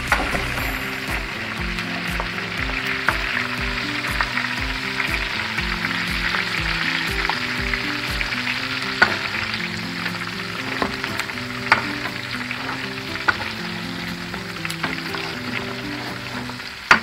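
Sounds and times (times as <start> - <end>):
pork skin sizzling in lard: 0.0 - 17.0.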